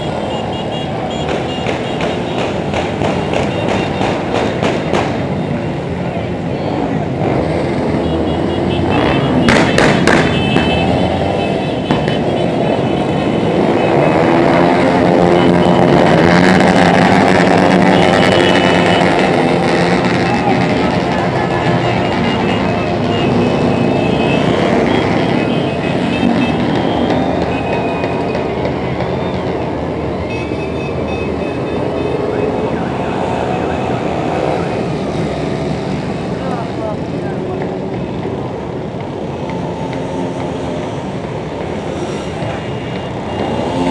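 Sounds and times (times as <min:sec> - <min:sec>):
motorcycles riding past: 0:00.0 - 0:43.9.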